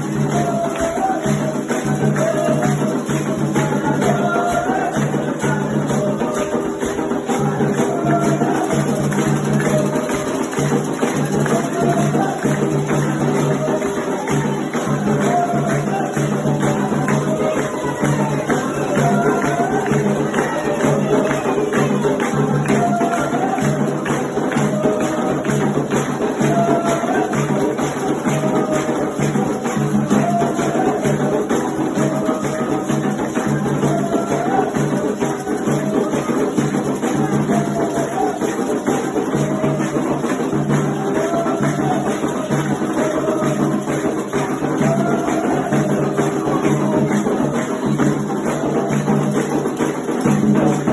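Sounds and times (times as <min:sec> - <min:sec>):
drums and percussion rhythm: 0:00.0 - 0:50.9
voices singing: 0:00.0 - 0:50.9.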